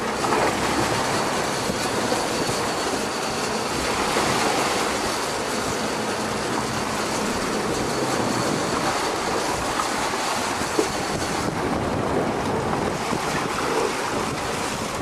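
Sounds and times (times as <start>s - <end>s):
sea rushing against boat: 0.0s - 15.0s
wind buffeting microphone: 0.0s - 15.0s.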